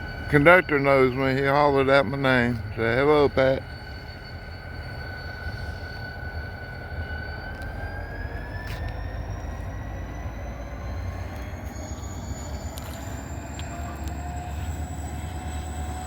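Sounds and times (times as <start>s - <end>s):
freight train rumbling past: 0.0s - 16.0s
high whine rising in pitch: 0.0s - 16.0s.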